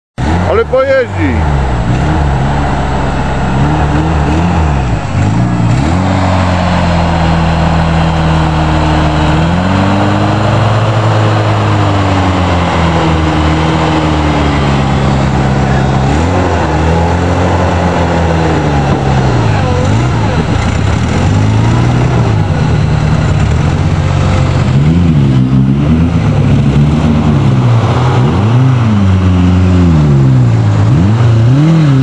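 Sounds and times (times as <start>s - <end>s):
off-road engine revving: 0.2s - 32.0s.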